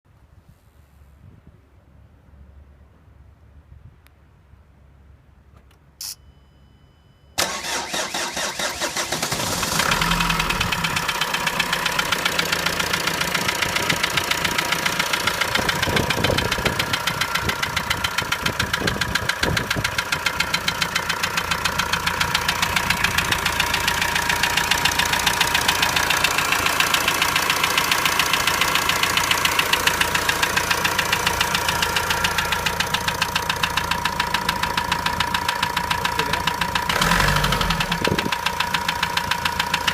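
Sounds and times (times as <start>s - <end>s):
diesel engine starting and idling: 7.4s - 39.9s.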